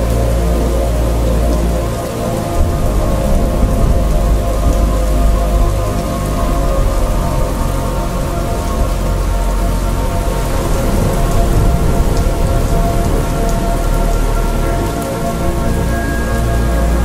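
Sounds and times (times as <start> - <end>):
heavy rain: 0.0 - 17.0
slowed reverb music: 0.0 - 17.0
thunder rumbling: 0.0 - 17.0.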